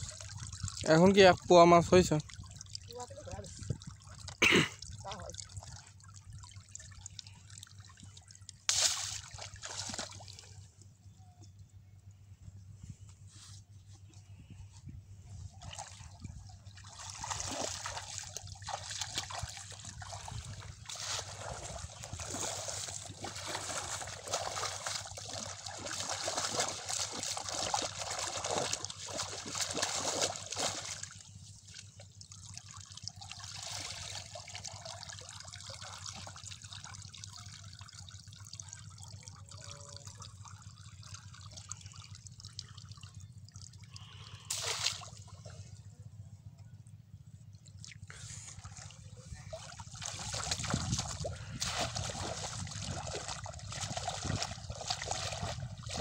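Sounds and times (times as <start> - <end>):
water splashing: 0.0 - 10.6, 15.6 - 45.7, 47.6 - 56.0.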